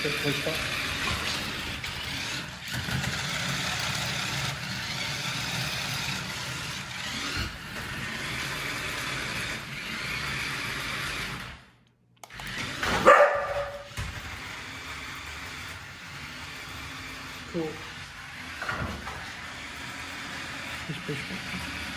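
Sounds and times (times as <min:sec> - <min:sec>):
wheels running over a desk: 0:00.0 - 0:11.6, 0:12.6 - 0:21.9
toy car electric motors whirring: 0:00.0 - 0:21.9.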